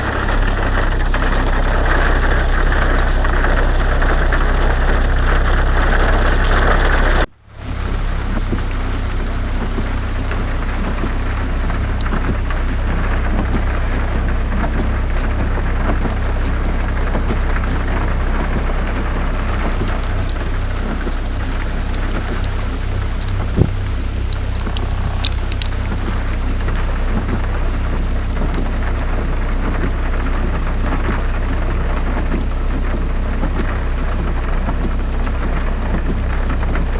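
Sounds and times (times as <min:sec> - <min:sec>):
low rain rumble: 0:00.0 - 0:36.9
raindrops hitting: 0:00.0 - 0:36.9.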